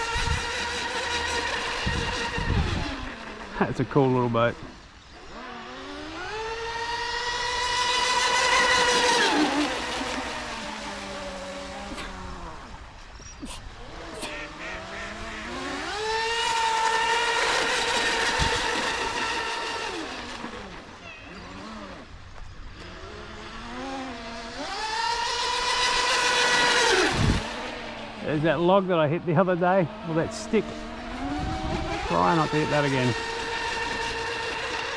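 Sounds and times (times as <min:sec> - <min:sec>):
rc speedboat motors whining: 0:00.0 - 0:34.9.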